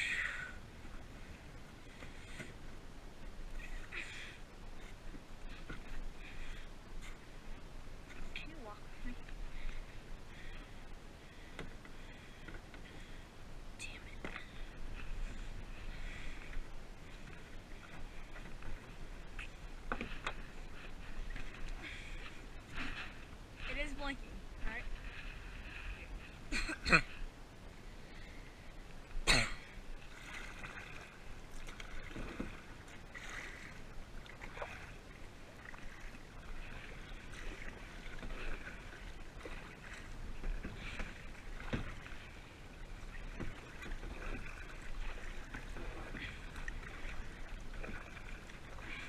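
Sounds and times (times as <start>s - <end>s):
paddle strokes in water: 0.0s - 26.5s, 27.1s - 49.0s
paddle knocking kayak: 0.8s - 13.2s, 14.2s - 23.7s, 30.0s - 49.0s.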